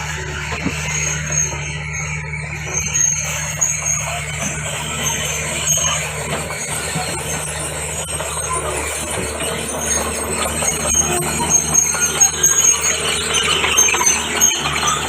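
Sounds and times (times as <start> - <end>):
diesel engine humming: 0.0 - 15.0
steel tracks squealing: 0.0 - 15.0.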